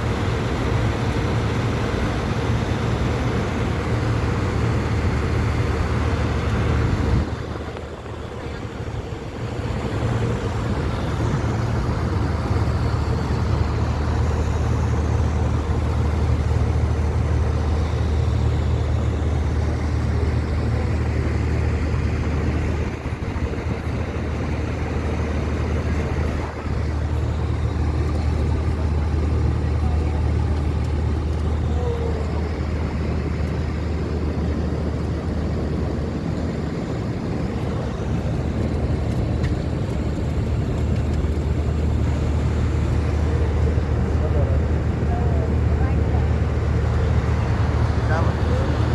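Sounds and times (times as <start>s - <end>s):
airliner cabin engine drone: 0.0s - 48.9s.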